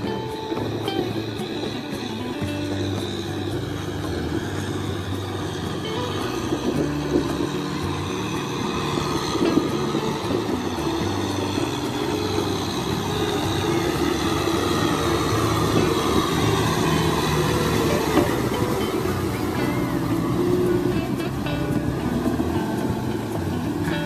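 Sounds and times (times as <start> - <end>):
tractor diesel engine under load: 0.0 - 24.0
wheels churning mud and water: 0.0 - 24.0.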